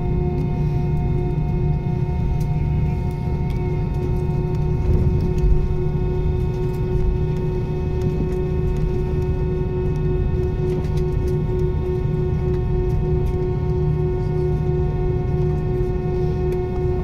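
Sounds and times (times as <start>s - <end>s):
jet engines humming and whining: 0.0s - 17.0s.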